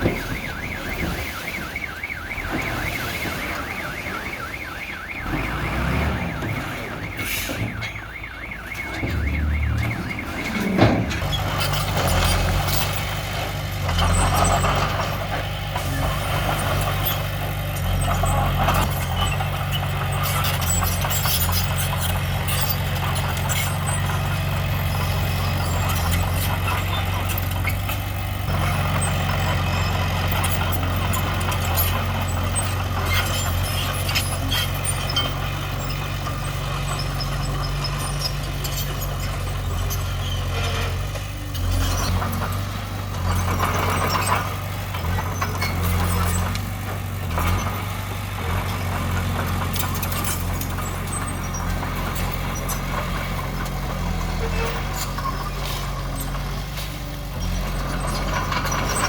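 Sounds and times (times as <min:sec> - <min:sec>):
diesel machinery engine drone: 0:00.0 - 0:59.0
metallic clanks and squeaks: 0:06.2 - 0:59.0.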